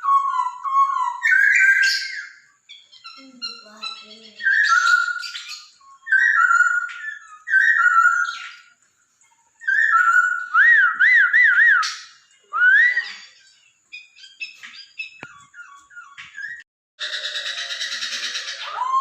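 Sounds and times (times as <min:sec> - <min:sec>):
bird singing whistled phrases: 0:00.0 - 0:08.7, 0:09.6 - 0:19.0
bird twittering: 0:00.0 - 0:19.0.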